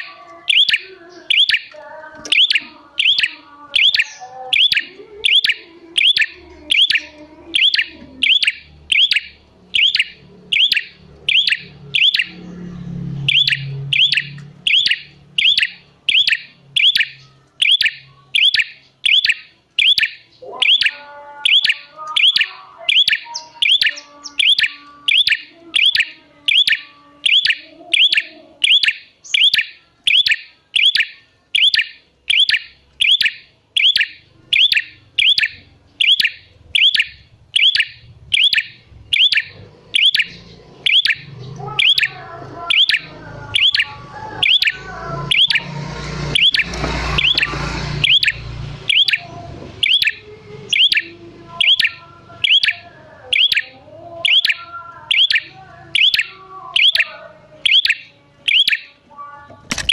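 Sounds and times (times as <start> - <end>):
tailorbird calling: 0.0 - 59.0.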